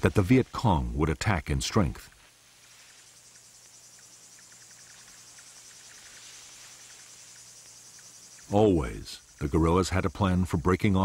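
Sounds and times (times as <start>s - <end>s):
insects chirring: 0.0s - 11.0s
low steady hum: 0.0s - 11.0s.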